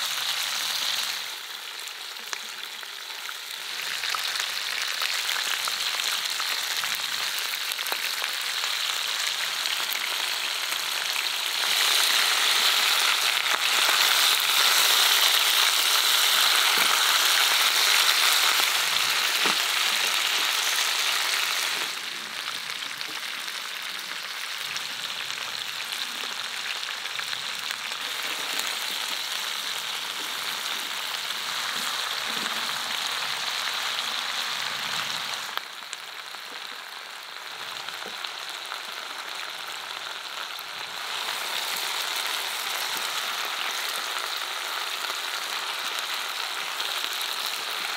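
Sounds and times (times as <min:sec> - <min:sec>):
meat and vegetables sizzling: 0:00.0 - 0:47.9.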